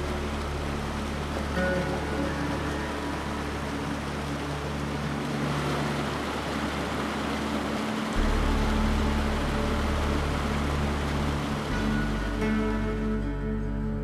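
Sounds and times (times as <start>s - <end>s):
creek rushing over rocks: 0.0s - 13.1s
background music low notes: 0.0s - 14.0s.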